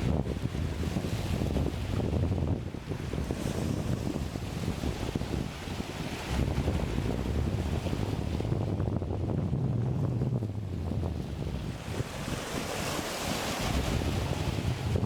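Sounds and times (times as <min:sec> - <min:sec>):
choppy sea wash: 0:00.0 - 0:15.0
wind buffeting microphone: 0:00.0 - 0:15.0.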